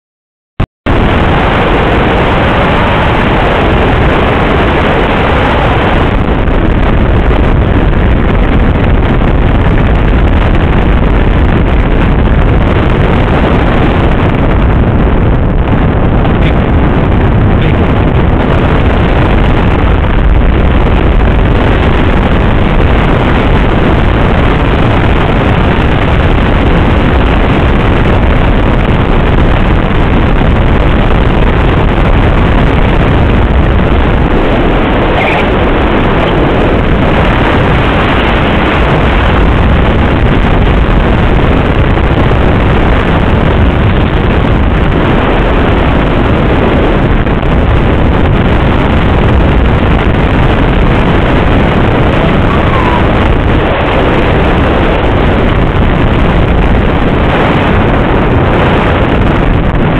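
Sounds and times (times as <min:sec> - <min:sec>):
wind and road noise: 0:00.8 - 0:59.9
wind buffeting microphone: 0:00.8 - 0:59.9.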